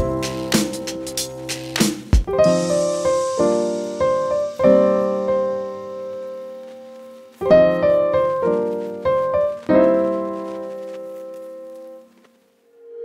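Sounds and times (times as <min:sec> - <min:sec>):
piano music: 0:00.0 - 0:12.3.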